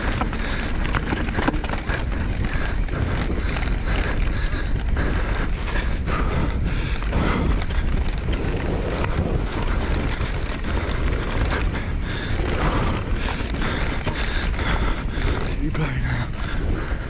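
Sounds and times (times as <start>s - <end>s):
bike rattling: 0.0s - 17.0s
tyres rolling over dirt and stones: 0.0s - 17.0s
wind buffeting microphone: 0.0s - 17.0s.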